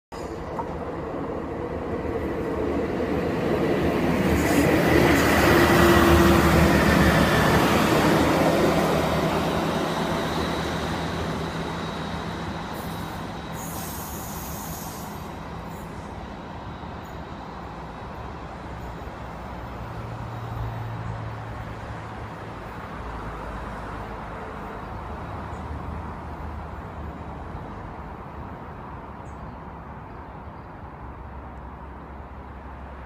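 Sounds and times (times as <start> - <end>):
diesel train passing: 0.1 - 33.0.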